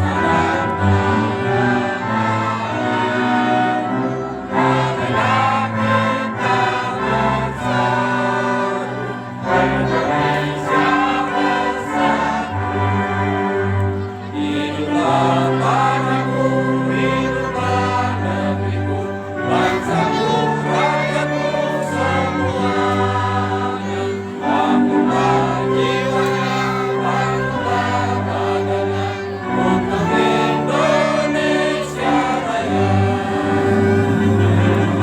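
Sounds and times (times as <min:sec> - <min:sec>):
women's choir singing: 0:00.0 - 0:35.0.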